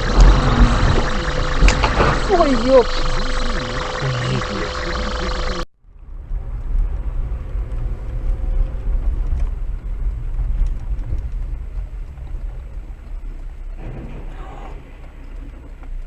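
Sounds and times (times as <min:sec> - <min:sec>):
car engine rumbling: 0:00.0 - 0:16.0
tyres on the road: 0:00.0 - 0:16.0.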